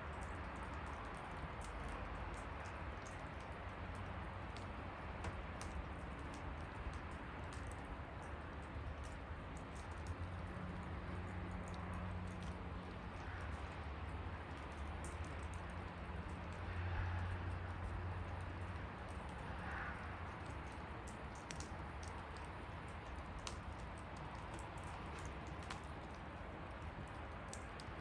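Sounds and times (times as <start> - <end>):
fire crackles and pops: 0.0 - 28.0
low rush of flames: 0.0 - 28.0.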